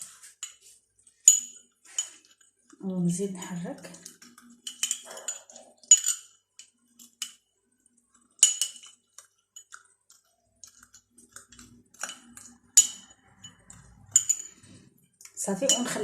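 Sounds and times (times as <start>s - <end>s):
spoon clinking against container: 0.2s - 2.8s, 3.4s - 7.5s, 8.2s - 16.0s.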